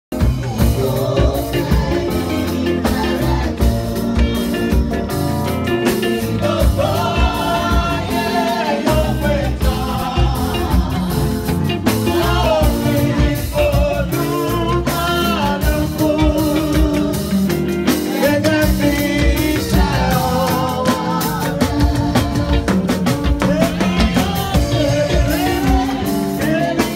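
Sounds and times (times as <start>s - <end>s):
bass line: 0.1s - 26.9s
drum kit beat: 0.1s - 26.9s
electric guitar: 0.1s - 26.9s
choir singing: 0.2s - 26.9s.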